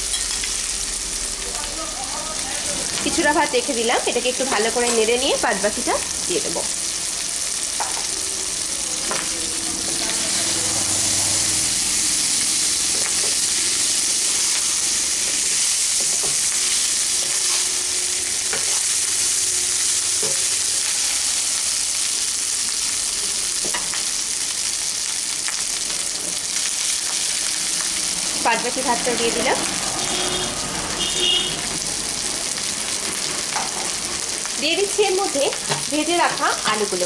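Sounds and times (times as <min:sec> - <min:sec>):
rice sizzling in hot oil: 0:00.0 - 0:37.0.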